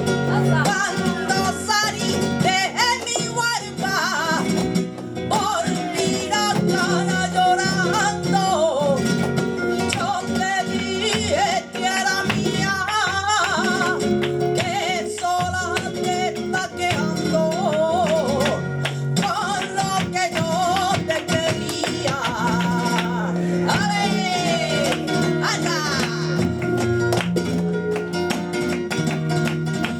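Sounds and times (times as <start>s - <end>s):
woman singing: 0.0s - 27.2s
flamenco guitar: 0.0s - 29.9s.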